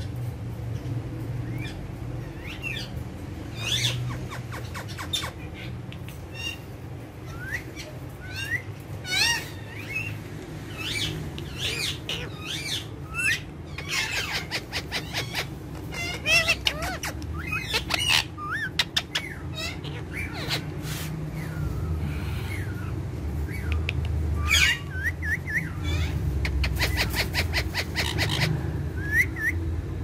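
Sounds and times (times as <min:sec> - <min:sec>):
parakeets chirping and whistling: 0:00.0 - 0:30.0
steady low hum: 0:00.0 - 0:30.0.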